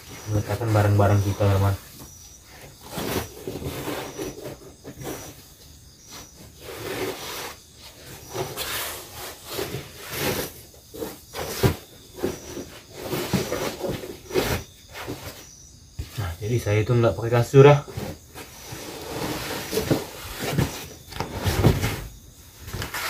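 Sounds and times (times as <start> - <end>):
foam mat and blanket rustling: 0.0 - 16.4, 17.6 - 23.0.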